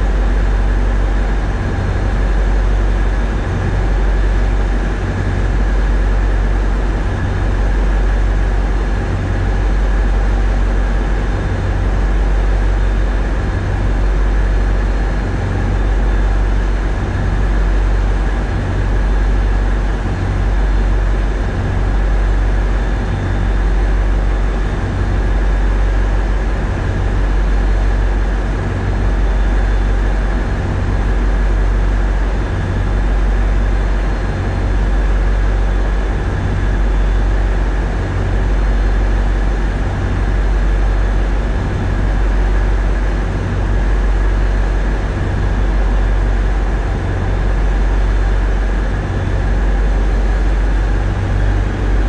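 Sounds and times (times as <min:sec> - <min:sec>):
diesel engines droning: 0:00.0 - 0:52.0.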